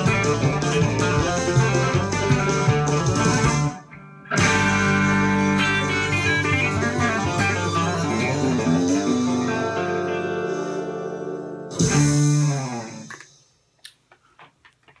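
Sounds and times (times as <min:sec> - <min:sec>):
country electric guitar tune: 0:00.0 - 0:13.3.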